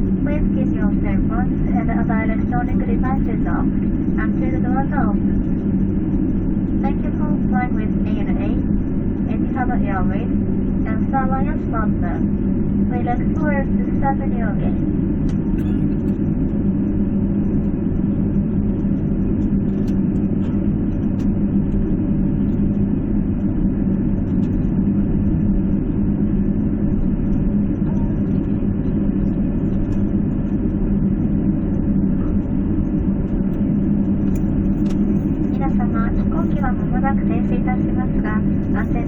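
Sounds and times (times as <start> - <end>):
airliner cabin drone: 0.0 - 39.0
constant hum tone: 0.0 - 39.0.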